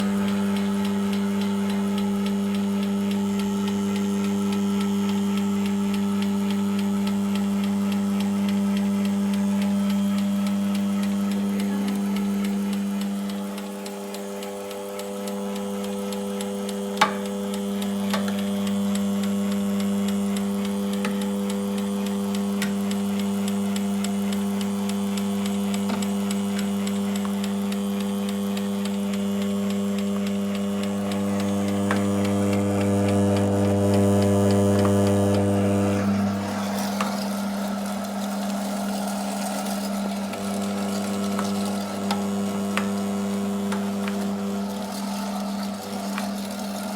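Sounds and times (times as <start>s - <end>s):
meat grinder motor humming: 0.0s - 46.9s.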